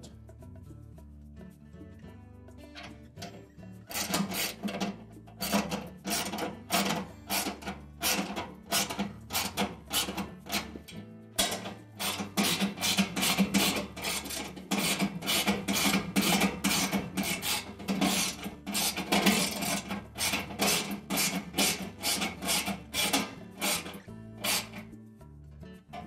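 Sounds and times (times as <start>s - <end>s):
ratchet wrench clicking: 3.9s - 24.9s.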